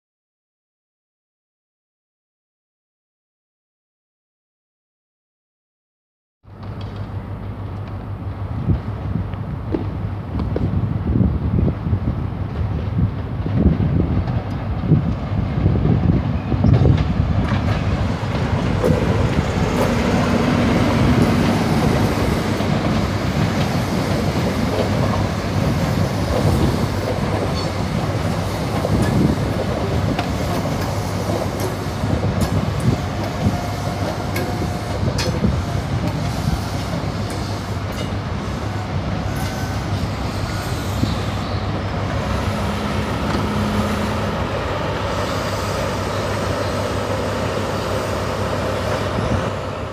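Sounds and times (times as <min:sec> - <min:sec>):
diesel train engine and wheel rumble: 0:06.5 - 0:49.9.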